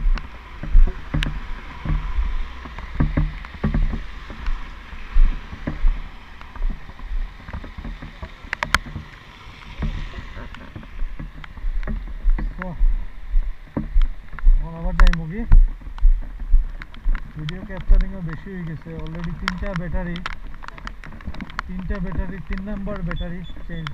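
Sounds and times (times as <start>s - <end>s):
sharp taps and knocks: 0.0s - 23.9s
wind rumbling on microphone: 0.0s - 23.9s.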